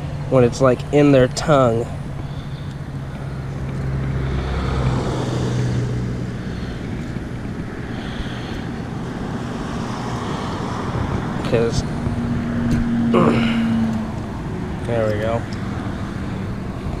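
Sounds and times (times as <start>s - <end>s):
distant motor traffic drone: 0.0s - 17.0s.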